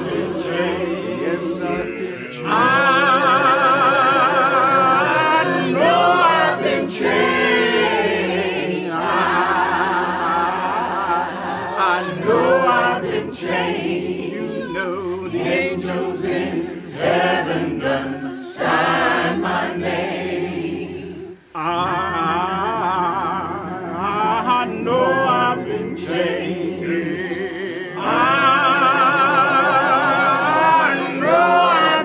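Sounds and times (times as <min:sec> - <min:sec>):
a cappella choir singing: 0:00.0 - 0:32.0.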